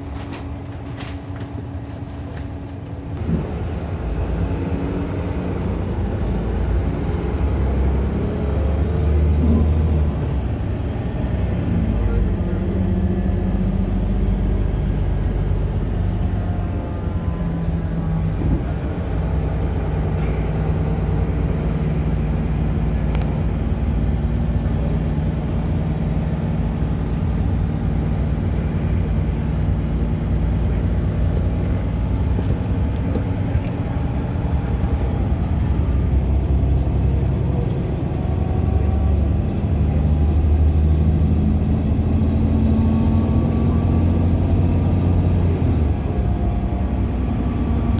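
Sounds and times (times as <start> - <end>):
bus engine droning: 0.0 - 47.9.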